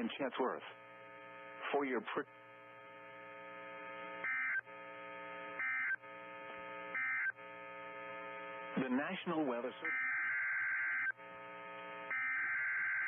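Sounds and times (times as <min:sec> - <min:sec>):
electrical hum: 0:00.0 - 0:13.0
buzzy digital data bursts: 0:00.7 - 0:13.0.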